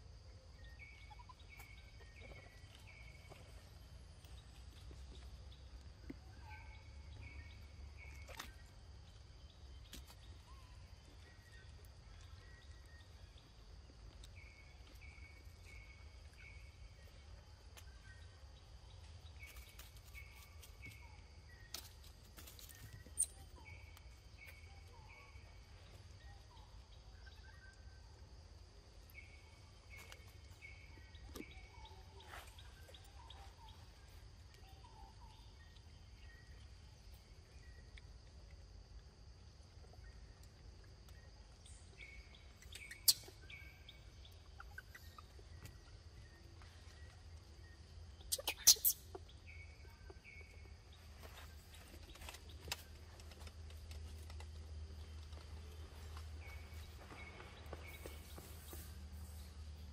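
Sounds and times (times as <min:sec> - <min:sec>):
bird chirping: 0:00.2 - 0:28.2, 0:28.8 - 0:38.2, 0:39.9 - 0:59.9.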